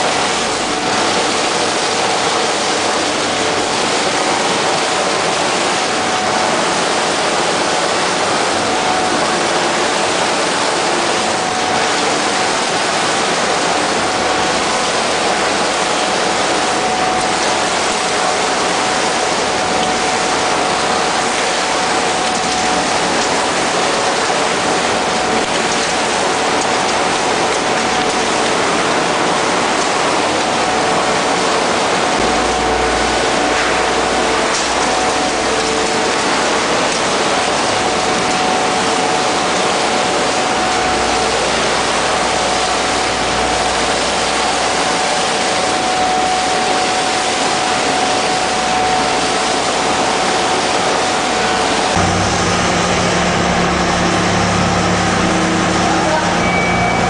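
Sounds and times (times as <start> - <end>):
thin steady whine: 0.0 - 57.0.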